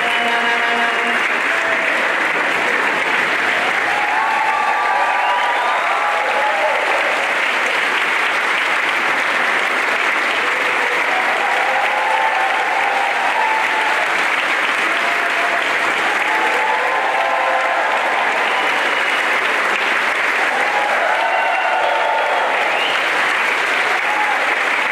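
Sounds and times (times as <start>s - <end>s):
audience applause: 0.0s - 24.9s.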